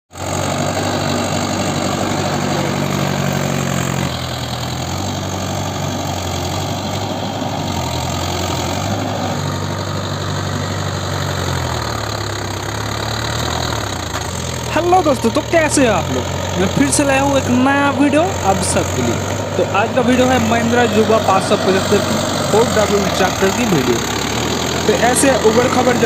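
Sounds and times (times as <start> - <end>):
tractor diesel engine idling: 0.1 - 26.0.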